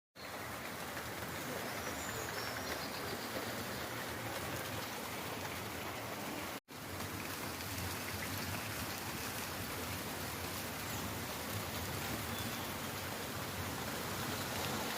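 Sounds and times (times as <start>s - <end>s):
rain falling: 0.2s - 14.9s.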